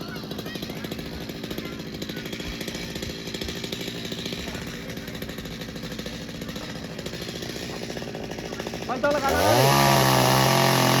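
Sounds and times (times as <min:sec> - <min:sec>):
two-stroke chainsaw engine running: 0:00.0 - 0:11.0.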